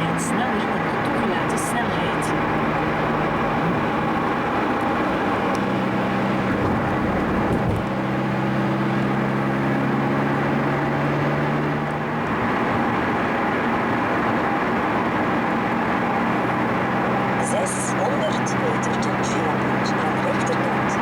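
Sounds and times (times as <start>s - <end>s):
car engine: 0.0s - 21.0s
road noise inside moving car: 0.0s - 21.0s.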